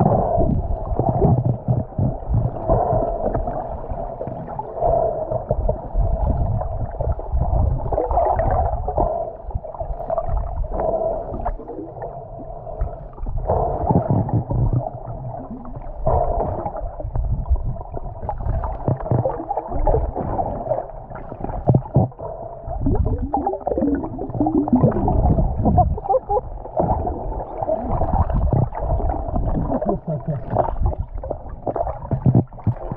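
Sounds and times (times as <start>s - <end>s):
water churning underwater: 0.0s - 32.9s.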